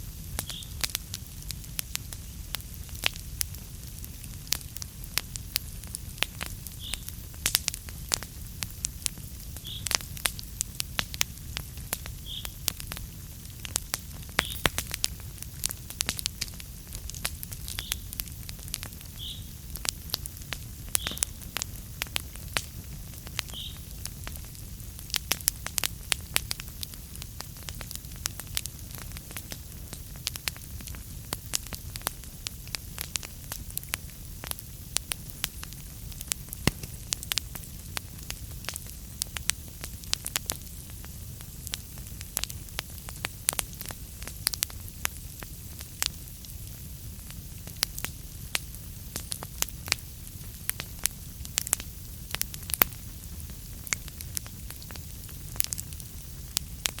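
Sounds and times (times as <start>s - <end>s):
flames rumbling: 0.0s - 57.0s
wood fire crackling and popping: 0.0s - 57.0s.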